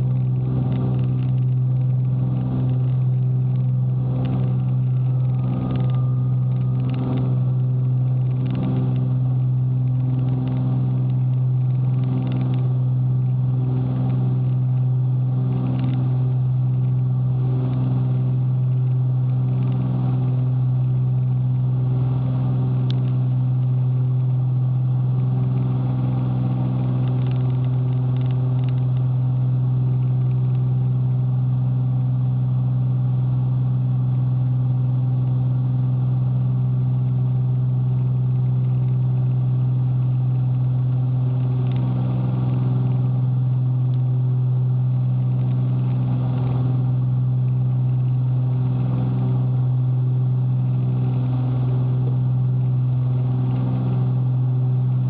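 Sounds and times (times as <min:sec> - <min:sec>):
aircraft engines droning in cockpit: 0:00.0 - 0:55.0.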